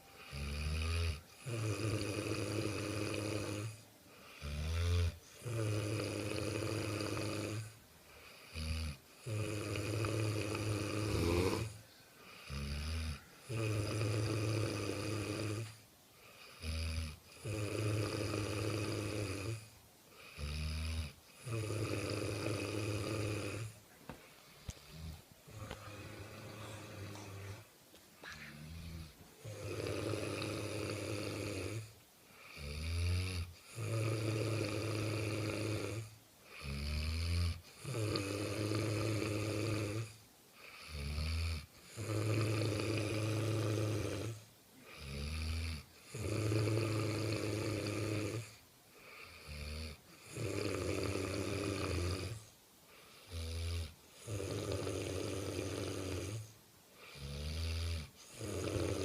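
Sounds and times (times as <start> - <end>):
heavy snoring: 0.0 - 23.8, 24.6 - 27.7, 28.5 - 59.0.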